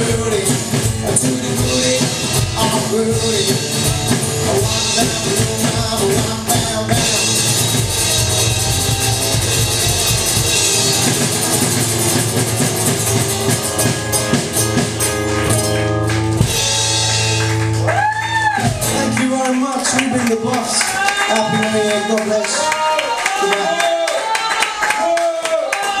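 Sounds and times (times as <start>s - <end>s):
acoustic guitar: 0.0s - 21.7s
drum kit: 0.0s - 22.3s.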